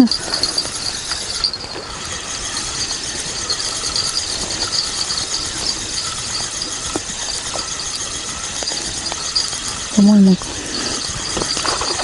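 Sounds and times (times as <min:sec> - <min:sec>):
fishing reel ratcheting: 0:00.0 - 0:12.0
high chirring: 0:00.0 - 0:12.0.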